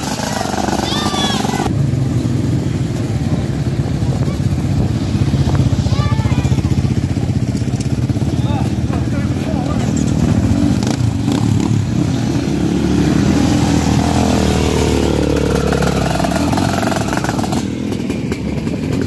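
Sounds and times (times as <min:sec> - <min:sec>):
motorcycle engine revving: 0:00.0 - 0:19.0
motorcycle engines running: 0:00.0 - 0:19.0.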